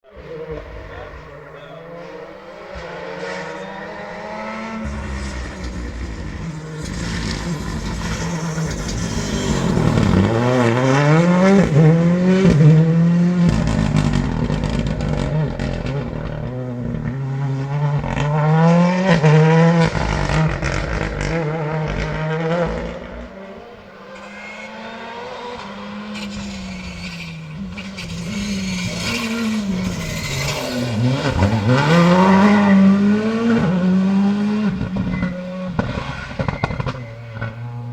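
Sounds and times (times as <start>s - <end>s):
rally car engine accelerating: 0.0s - 37.9s.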